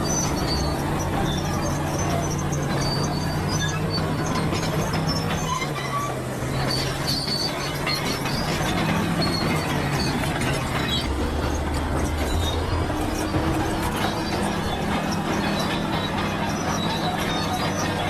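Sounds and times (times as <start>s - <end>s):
diesel engine hum: 0.0s - 18.0s
steel tracks clattering: 0.0s - 18.0s
track gear squeaks: 0.0s - 18.0s.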